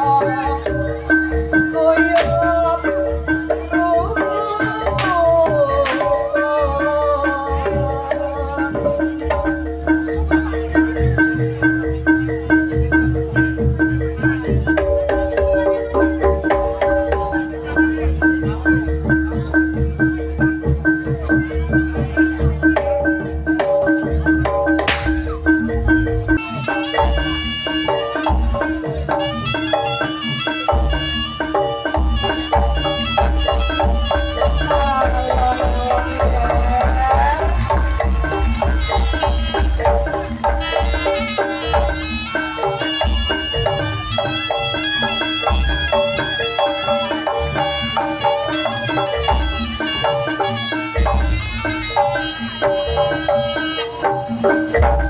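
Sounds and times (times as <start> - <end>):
deep drum beats: 0.0 - 46.7
metallophone melody: 6.2 - 55.0.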